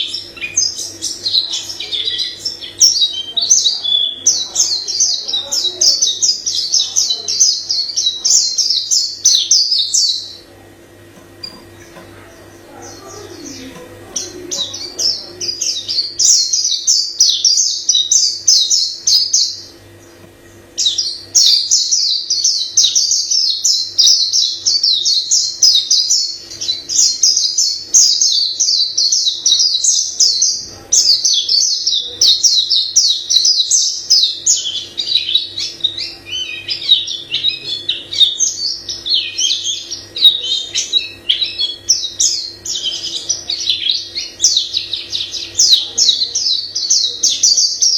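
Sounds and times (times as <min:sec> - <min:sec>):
bird warbling song: 0:00.0 - 0:47.9.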